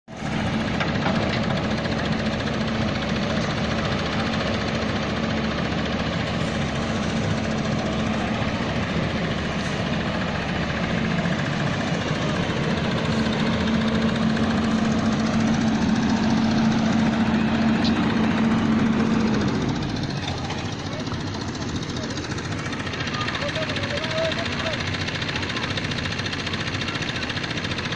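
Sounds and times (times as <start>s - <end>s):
concrete mixer engine chugging: 0.1s - 27.9s.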